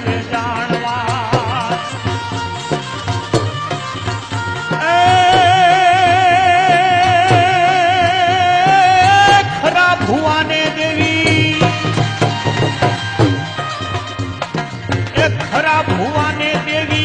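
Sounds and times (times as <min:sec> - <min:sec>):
devotional folk melody with vibrato: 0:00.0 - 0:17.0
hand drum rhythm: 0:00.0 - 0:17.0.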